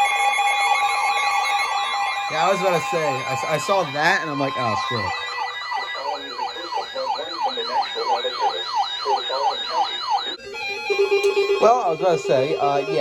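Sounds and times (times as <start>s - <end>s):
electronic siren alarm yelping: 0.0s - 13.0s
steady low tones: 1.8s - 13.0s.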